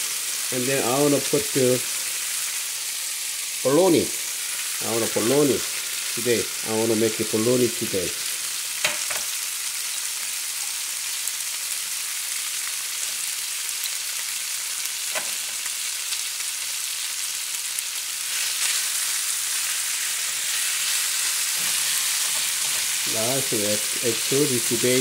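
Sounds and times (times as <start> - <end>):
rice sizzling in a frying pan: 0.0 - 25.0.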